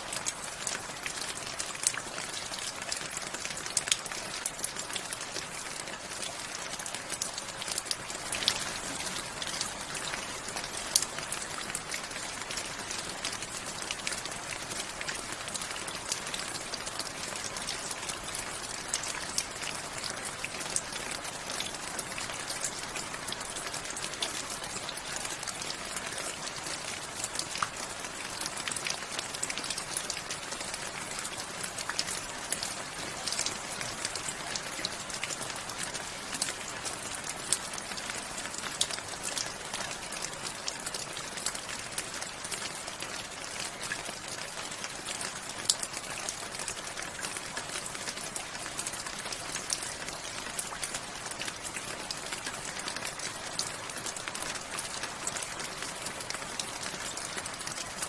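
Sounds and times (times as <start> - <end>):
rain drops on hard surface: 0.0 - 58.0.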